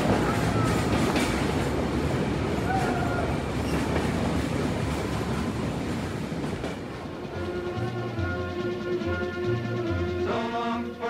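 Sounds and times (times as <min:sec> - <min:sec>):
train wheels rumbling on rail: 0:00.0 - 0:10.8.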